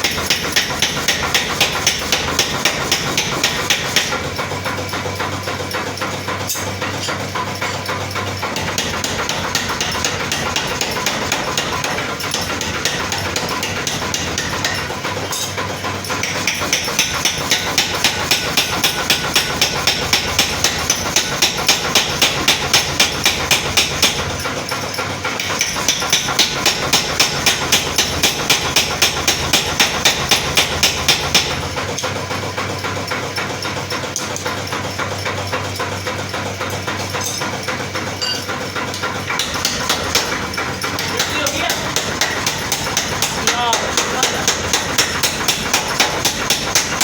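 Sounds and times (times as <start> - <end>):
power hammer striking steel: 0.0 - 32.4, 33.0 - 47.0
steady machine hum: 0.0 - 47.0.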